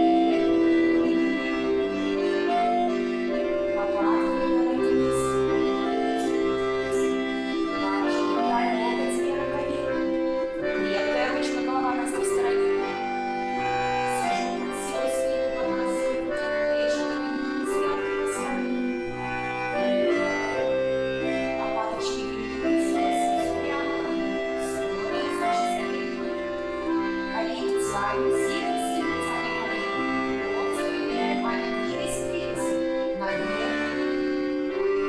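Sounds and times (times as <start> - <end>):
accordion chords and melody: 0.0 - 35.0.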